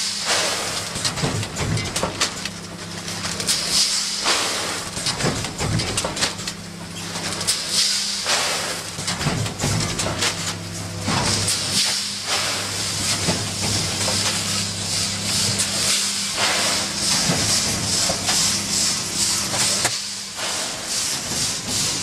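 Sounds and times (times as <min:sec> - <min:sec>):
packaging machine hiss and hum: 0:00.0 - 0:22.0.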